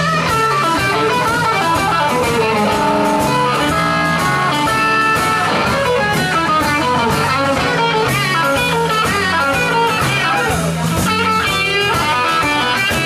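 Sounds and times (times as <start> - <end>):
drums: 0.0 - 13.0
electric bass: 0.0 - 13.0
electric guitars: 0.0 - 13.0.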